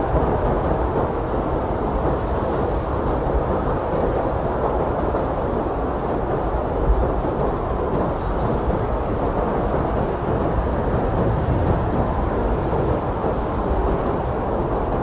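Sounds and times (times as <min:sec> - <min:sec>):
blizzard wind roaring: 0:00.0 - 0:15.0.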